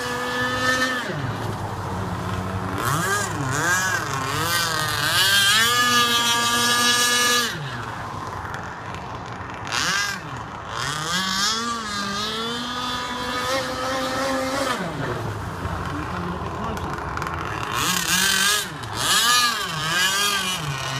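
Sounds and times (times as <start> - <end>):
two-stroke boat engine revving: 0.0 - 20.9.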